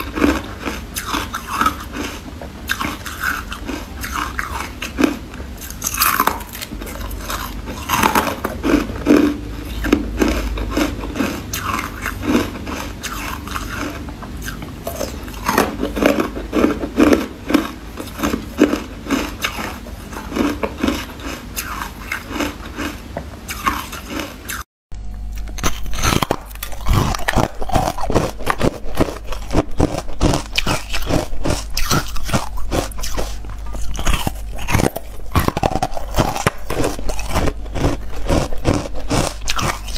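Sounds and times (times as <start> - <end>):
teeth crunching ice cubes: 0.0 - 39.9.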